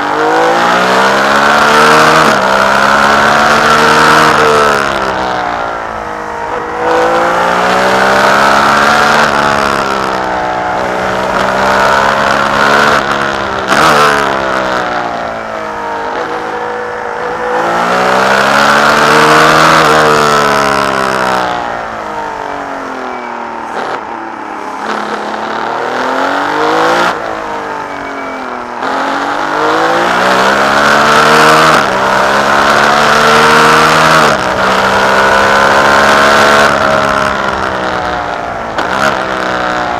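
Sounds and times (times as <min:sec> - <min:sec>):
racing engine accelerating: 0:00.0 - 0:39.9.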